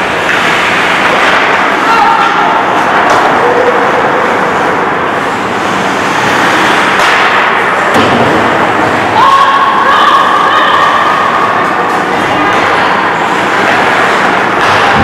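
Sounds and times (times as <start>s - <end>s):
skates on ice: 0.0s - 9.4s, 10.1s - 15.0s.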